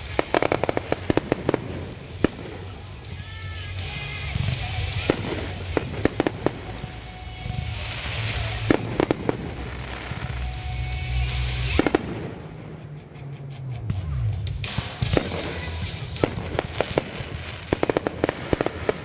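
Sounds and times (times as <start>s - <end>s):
fireworks banging: 0.0s - 13.4s, 14.0s - 19.0s
fireworks crackling: 0.0s - 13.4s, 14.5s - 19.0s
music with low bass: 0.0s - 19.0s.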